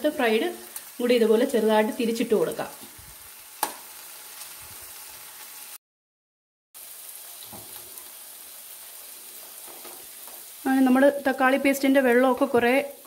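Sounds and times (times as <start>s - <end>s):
food sizzling in a pan: 0.0s - 5.8s, 6.8s - 13.0s.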